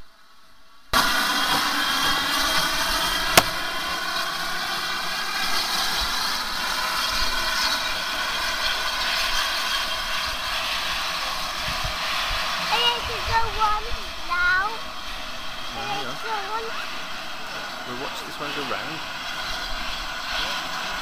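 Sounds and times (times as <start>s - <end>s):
steam hissing: 1.0s - 21.0s.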